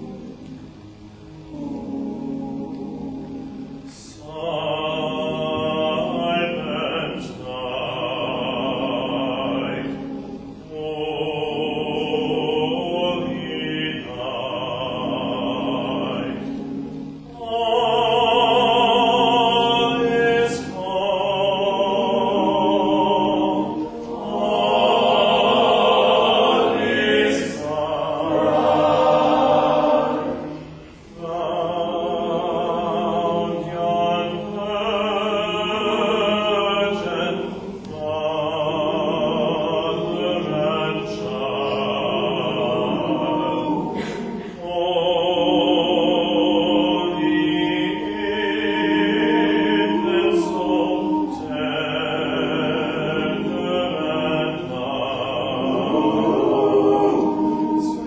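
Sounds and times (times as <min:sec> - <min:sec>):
male choir singing in harmony: 0:00.0 - 0:58.0.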